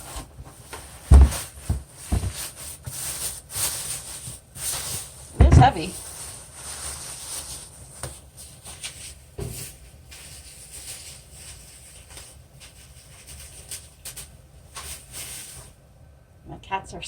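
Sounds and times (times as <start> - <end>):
packaging rustling and crinkling: 0.0 - 15.8.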